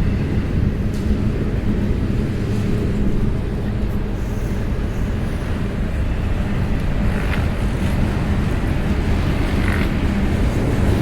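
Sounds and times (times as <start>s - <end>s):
train rumbling past: 0.0s - 11.0s
wind buffeting microphone: 0.0s - 11.0s.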